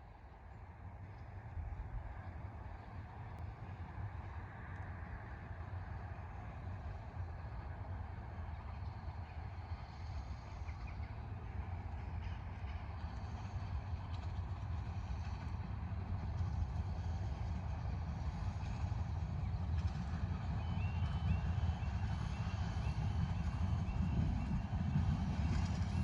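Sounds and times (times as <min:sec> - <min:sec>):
miniature train rumble: 0:00.0 - 0:26.0.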